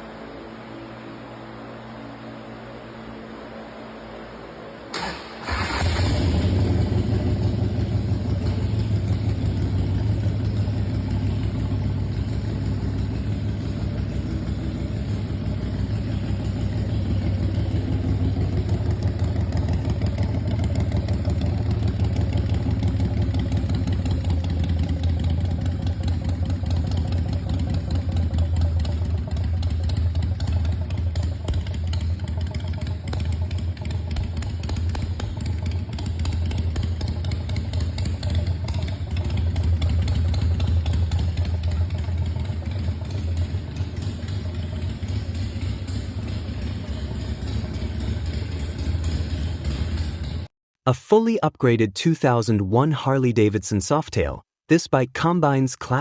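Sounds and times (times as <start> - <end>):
motorcycle engine idling: 5.0 - 50.5.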